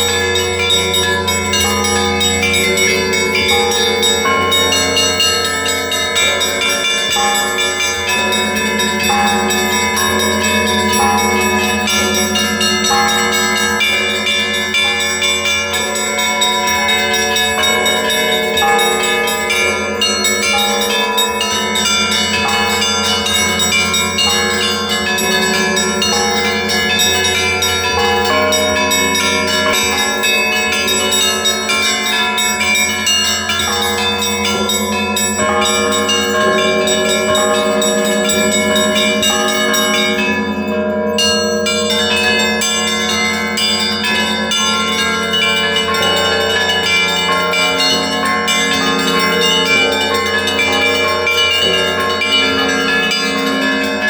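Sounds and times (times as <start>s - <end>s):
church bells ringing: 0.0s - 54.0s
deep hum of large bells: 0.0s - 54.0s.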